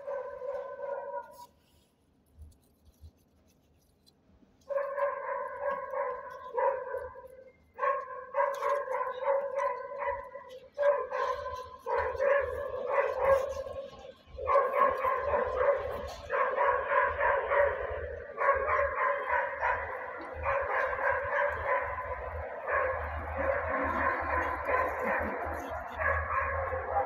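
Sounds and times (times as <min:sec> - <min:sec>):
dog barking: 0:00.0 - 0:01.5, 0:04.7 - 0:27.0.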